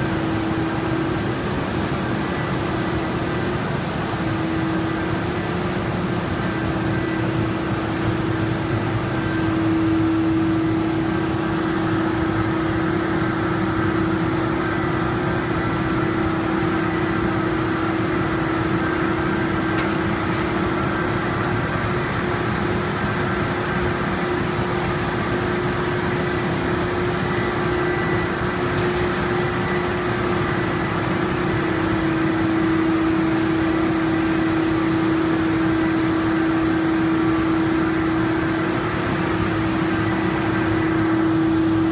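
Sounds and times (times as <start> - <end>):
factory machinery hum: 0.0 - 41.9.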